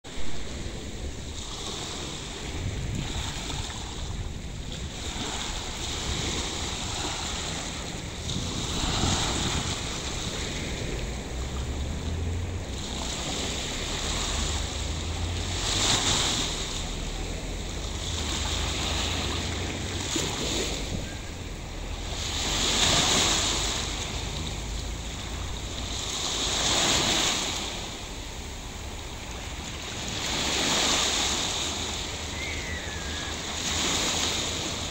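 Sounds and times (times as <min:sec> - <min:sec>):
sea waves breaking on beach: 0:00.0 - 0:34.9
wind rumbling on microphone: 0:00.0 - 0:34.9.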